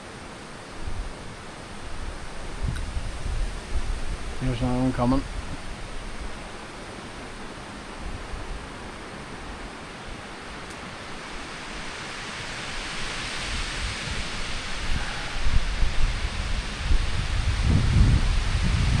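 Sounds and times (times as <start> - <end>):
wind rushing through trees: 0.0 - 19.0.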